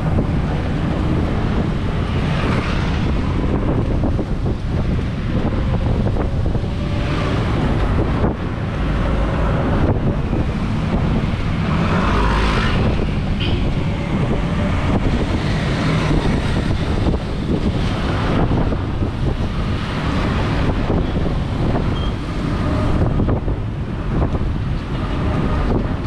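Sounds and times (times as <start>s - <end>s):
low road rumble: 0.0s - 26.0s
wind buffeting microphone: 0.0s - 26.0s.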